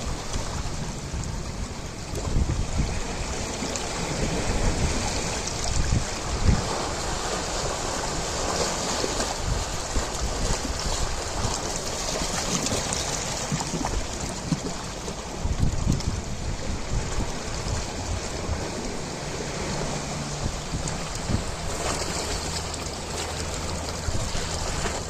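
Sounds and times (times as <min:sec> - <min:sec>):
ocean waves breaking: 0:00.0 - 0:25.0
wind buffeting microphone: 0:00.0 - 0:25.0.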